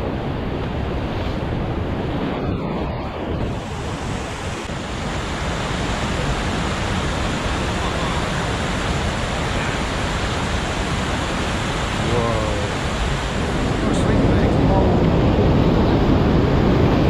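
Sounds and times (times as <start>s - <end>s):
white water rushing: 0.0s - 17.0s.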